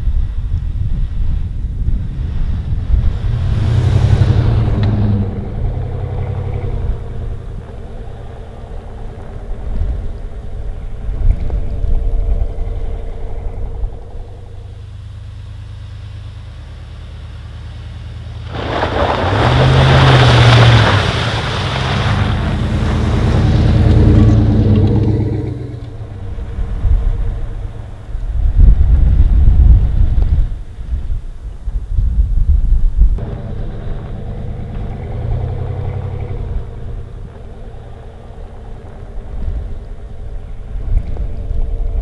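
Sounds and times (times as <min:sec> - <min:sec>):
truck engine driving: 0:00.0 - 0:31.9, 0:32.6 - 0:42.0.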